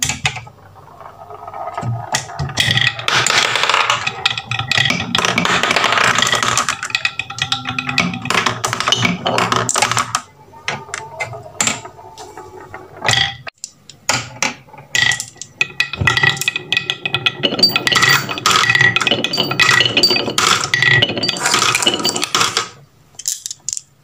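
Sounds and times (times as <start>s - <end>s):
marbles clacking on wooden track: 0.0s - 12.0s, 14.1s - 23.9s.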